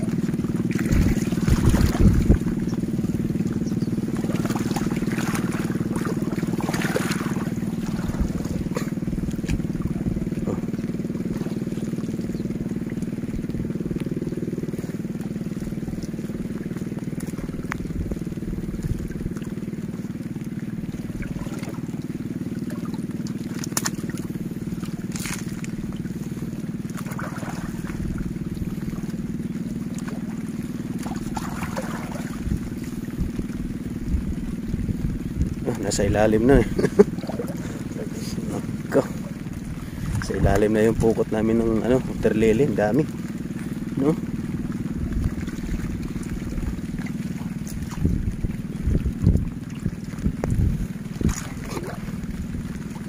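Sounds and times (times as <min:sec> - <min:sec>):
steady low rumble: 0:00.0 - 0:53.0
water splashing and sloshing: 0:00.0 - 0:53.0.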